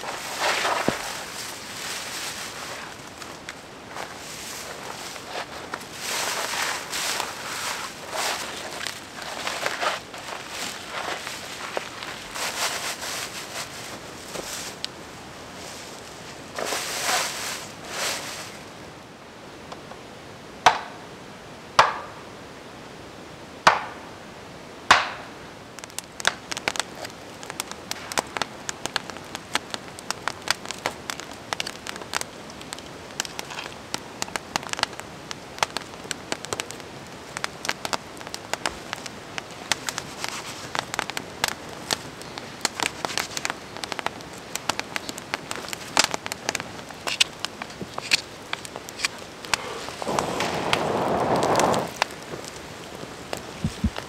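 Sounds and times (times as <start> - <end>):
campfire crackling and popping: 0.0 - 18.8, 24.9 - 54.0.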